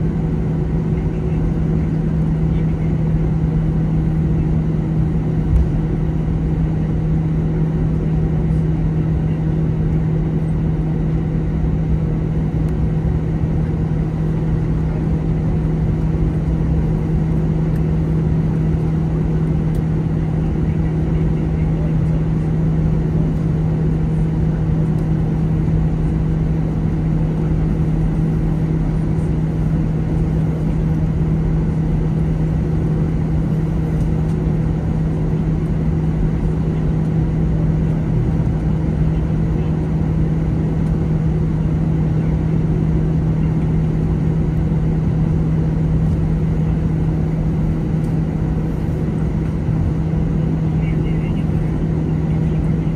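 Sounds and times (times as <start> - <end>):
aircraft cabin drone: 0.0 - 52.9
constant low hum: 0.0 - 52.9.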